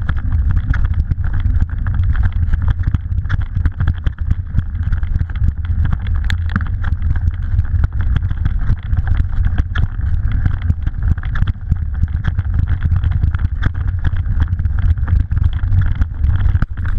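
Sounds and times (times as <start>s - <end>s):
wind and tyre rumble: 0.0s - 16.9s.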